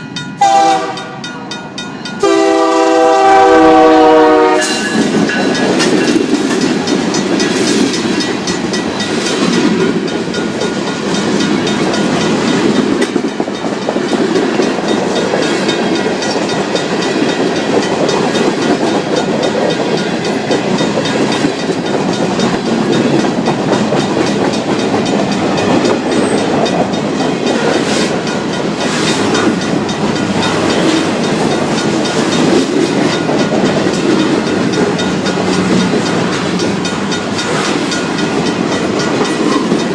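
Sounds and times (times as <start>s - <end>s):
crossing bell ringing rapidly: 0.0s - 39.9s
heavy train knocks: 0.0s - 39.9s
train wheels clacking over rails: 0.0s - 39.9s.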